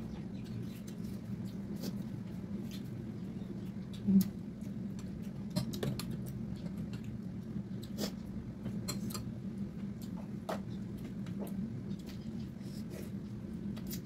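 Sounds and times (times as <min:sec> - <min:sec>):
people chewing food: 0:00.0 - 0:14.0
steady low hum: 0:00.0 - 0:14.0.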